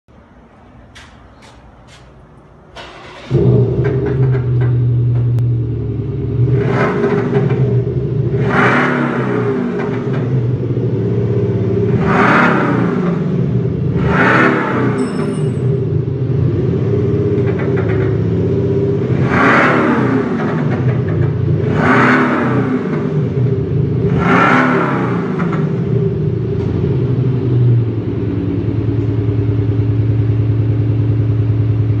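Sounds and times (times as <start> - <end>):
car engine revving: 2.7 - 32.0.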